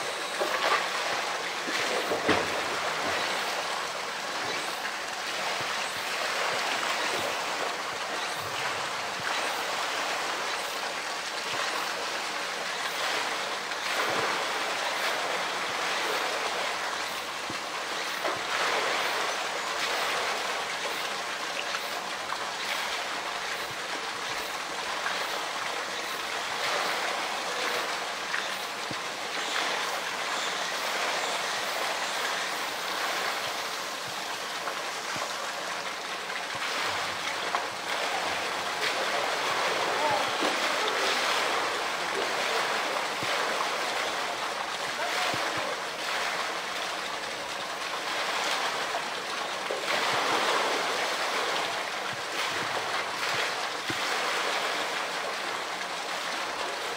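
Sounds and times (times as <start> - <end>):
pool water sloshing: 0.0 - 56.9
water splashes: 0.0 - 56.9.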